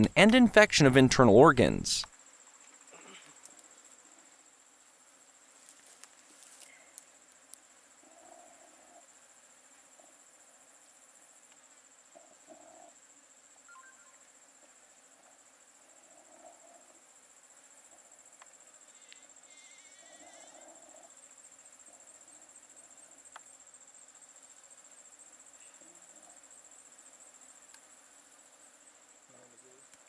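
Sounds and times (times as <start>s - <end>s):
insects chirring: 2.1s - 30.0s.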